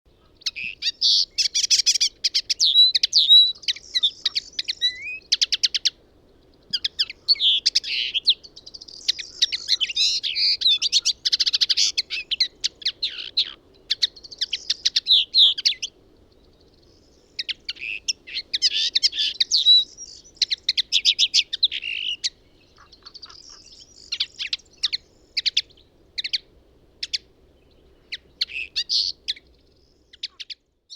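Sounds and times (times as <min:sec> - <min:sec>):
songbird singing trills and chirps: 0:00.1 - 0:30.9.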